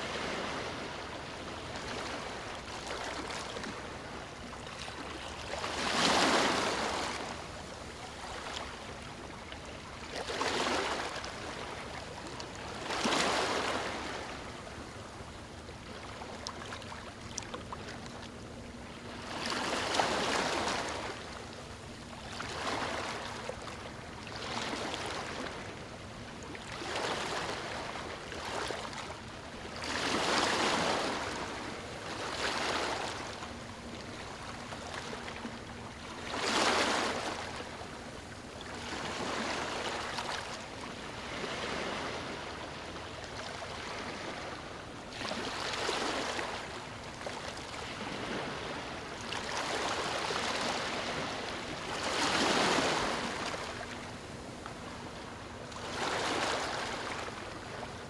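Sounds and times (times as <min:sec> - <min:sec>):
waves breaking on a beach: 0:00.0 - 0:58.0.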